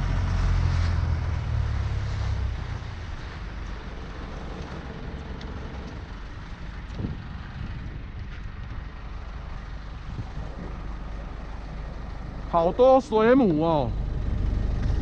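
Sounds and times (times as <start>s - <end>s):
boat engine running: 0.0s - 15.0s
wind and water hiss: 0.0s - 15.0s.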